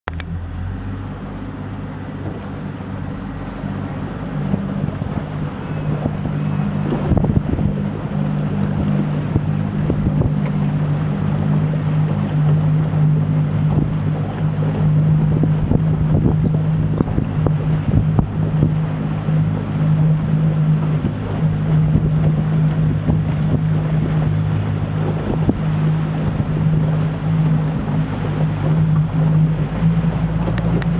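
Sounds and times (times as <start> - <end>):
boat engine running: 0.0 - 30.9
wind buffeting microphone: 0.1 - 30.9.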